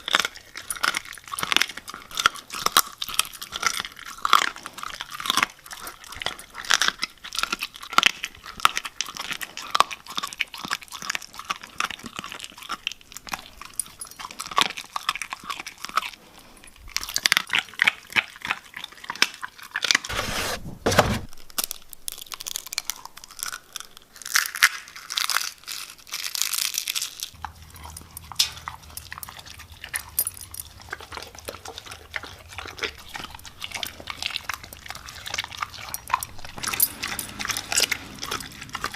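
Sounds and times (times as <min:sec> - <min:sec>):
dog chewing: 0:00.0 - 0:20.2, 0:21.1 - 0:38.9.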